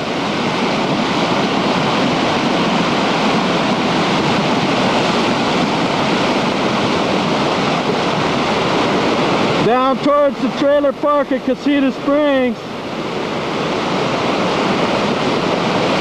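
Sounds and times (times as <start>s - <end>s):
river rushing in flood: 0.0s - 16.0s.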